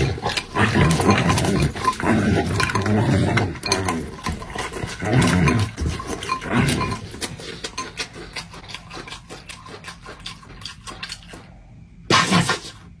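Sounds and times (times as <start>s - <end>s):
chewing crunchy chips: 0.0s - 12.8s.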